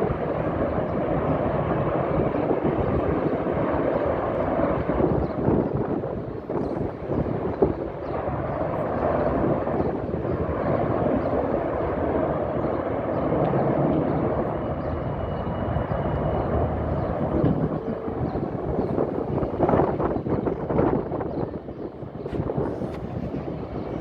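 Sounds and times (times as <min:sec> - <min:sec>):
helicopters flying over: 0:00.0 - 0:24.0.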